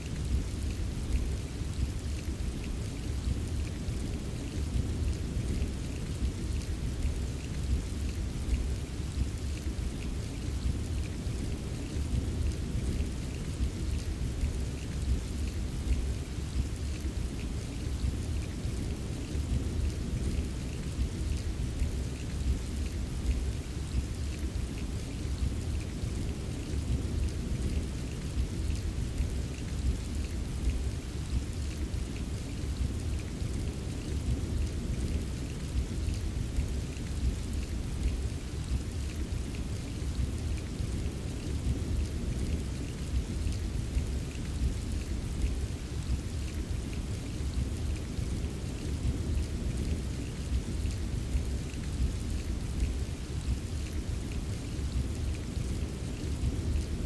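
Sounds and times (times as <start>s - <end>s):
rain hiss: 0.0s - 57.0s
raindrop ticks: 0.2s - 57.0s.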